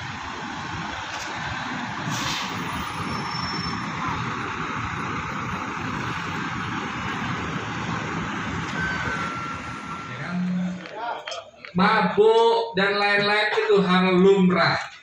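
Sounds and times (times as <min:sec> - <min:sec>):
diesel bus engines running: 0:00.0 - 0:12.4.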